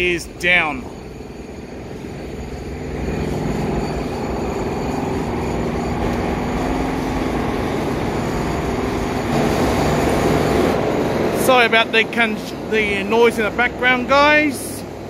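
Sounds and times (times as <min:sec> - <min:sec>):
droning hum: 0:00.0 - 0:15.0.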